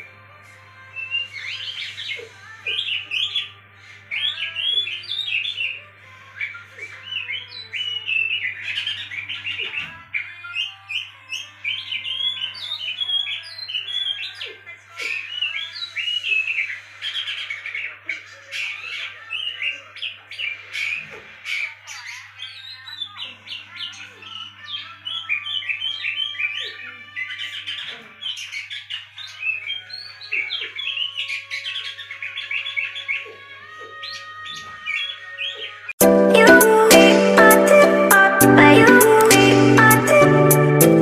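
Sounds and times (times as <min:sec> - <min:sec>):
bird song chirps and whistles: 0:01.0 - 0:05.8, 0:06.4 - 0:36.0.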